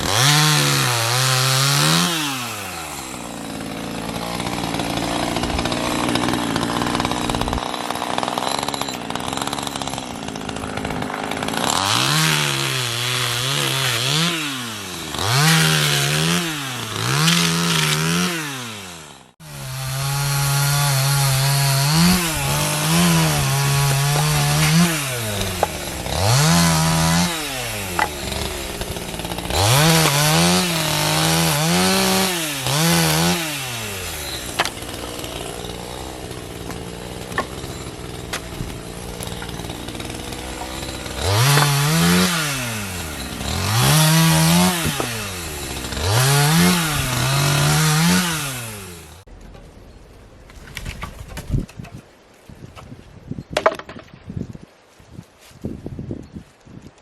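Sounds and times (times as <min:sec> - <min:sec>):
chainsaw engine revving: 0:00.0 - 0:49.3.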